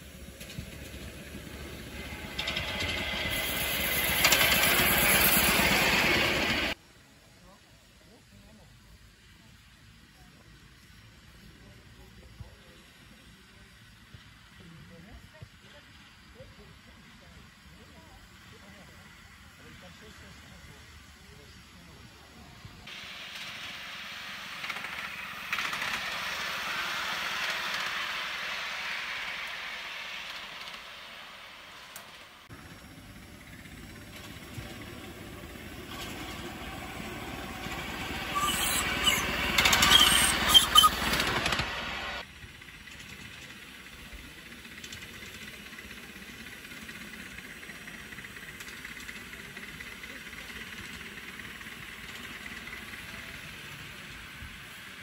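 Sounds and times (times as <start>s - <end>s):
steam locomotive hissing: 0.0s - 6.9s, 7.9s - 55.0s.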